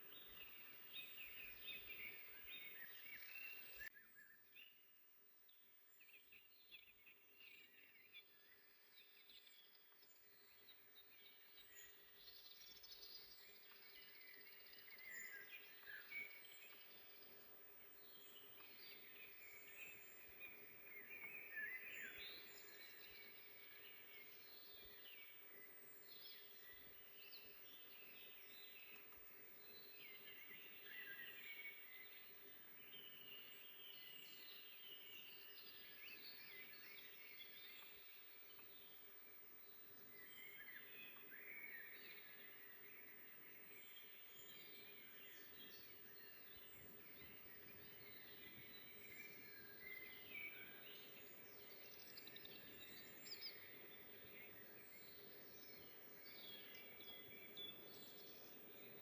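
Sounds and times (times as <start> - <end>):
songbirds chirping and singing: 0.0 - 4.8, 5.5 - 59.0.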